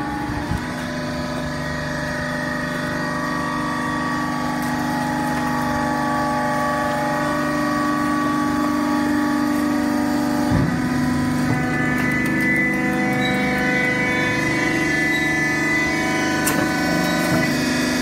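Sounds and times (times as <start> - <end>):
hydraulic motor and pump hum: 0.0 - 18.0.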